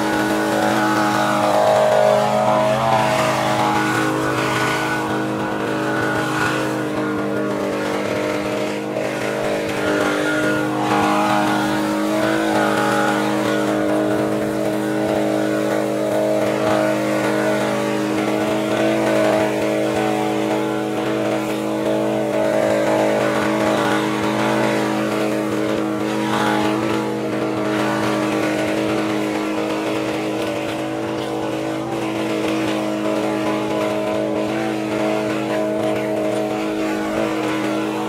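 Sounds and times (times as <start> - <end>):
small petrol engine running: 0.0 - 38.0.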